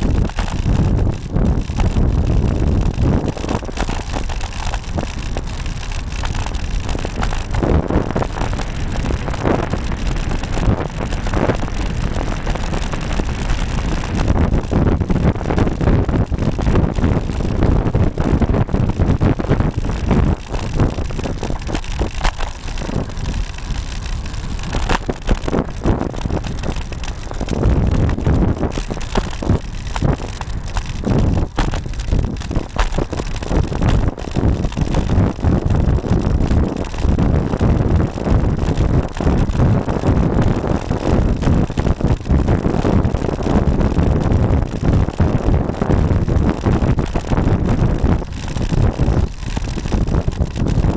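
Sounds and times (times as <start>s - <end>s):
wind rumbling over microphone: 0.0s - 50.9s.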